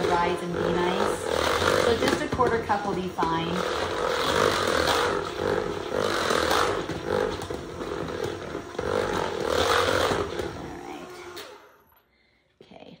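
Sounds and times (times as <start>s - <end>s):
hand mixer running: 0.0s - 12.0s.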